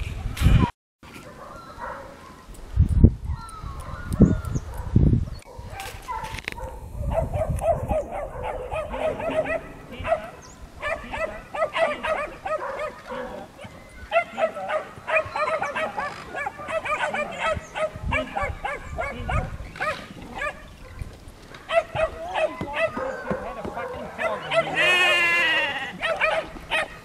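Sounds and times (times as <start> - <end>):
puppies yapping: 3.6 - 27.0.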